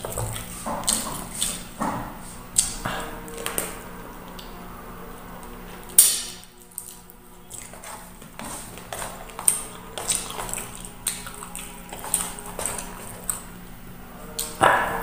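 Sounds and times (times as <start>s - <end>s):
wet chewing and lip-smacking: 0.0s - 1.8s, 2.5s - 4.5s, 5.8s - 14.6s.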